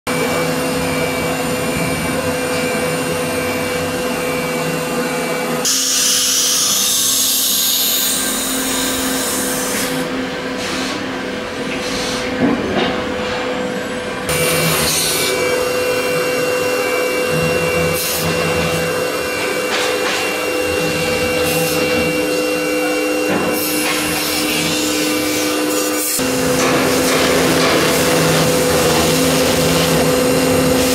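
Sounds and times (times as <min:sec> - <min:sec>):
cnc router spindle whine: 0:00.1 - 0:30.9.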